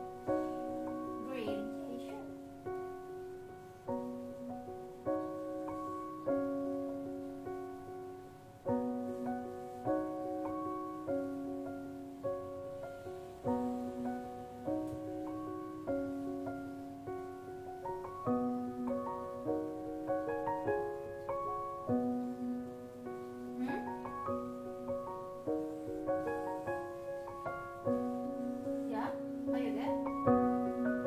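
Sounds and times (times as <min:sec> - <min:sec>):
gentle piano piece: 0:00.0 - 0:31.0.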